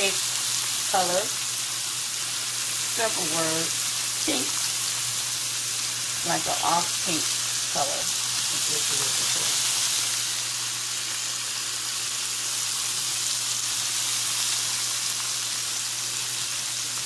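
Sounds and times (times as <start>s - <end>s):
shrimp sizzling in oil: 0.0s - 17.0s.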